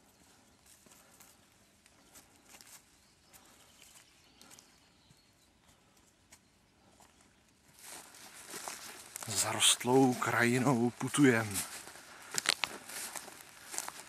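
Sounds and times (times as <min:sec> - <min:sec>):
footsteps in dry grass: 0:00.0 - 0:14.0.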